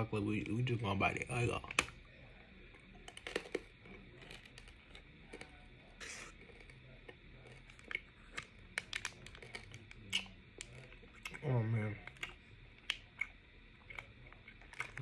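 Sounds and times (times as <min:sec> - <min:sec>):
chewing candy bar crunching: 0:01.6 - 0:15.0.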